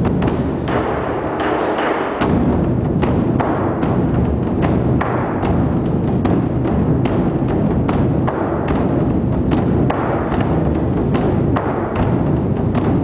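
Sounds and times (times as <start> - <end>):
drum roll with sharp cracks: 0.0 - 13.0.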